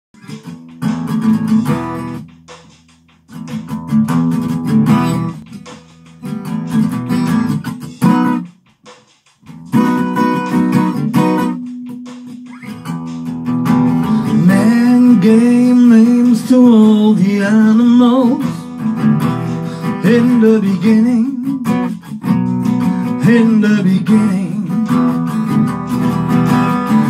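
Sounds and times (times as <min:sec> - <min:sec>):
acoustic guitar strumming: 0:00.2 - 0:27.0.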